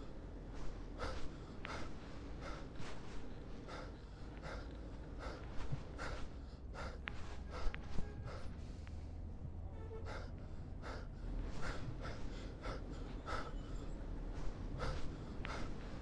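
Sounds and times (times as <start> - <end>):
person breathing hard: 0.0 - 9.4, 10.0 - 16.0
steady low hum: 0.0 - 16.0.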